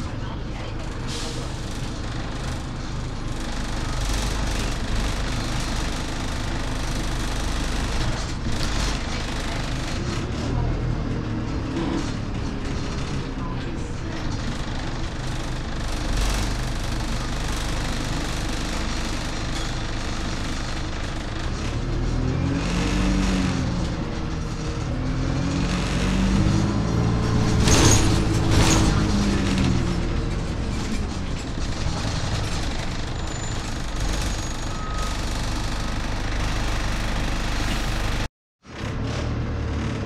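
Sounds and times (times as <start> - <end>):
bus engine accelerating: 0.0 - 40.0.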